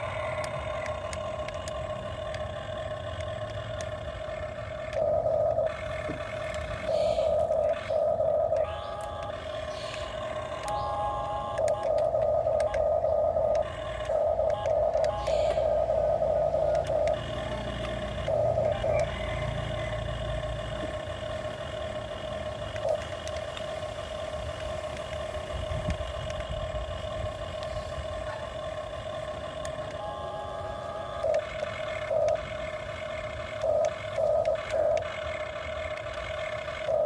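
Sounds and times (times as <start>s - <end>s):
excavator working: 0.0s - 37.0s.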